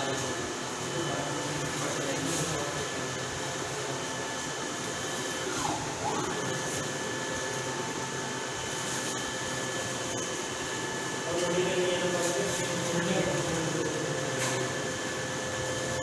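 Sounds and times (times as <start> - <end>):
motorised printer whir and whine: 0.0 - 16.0.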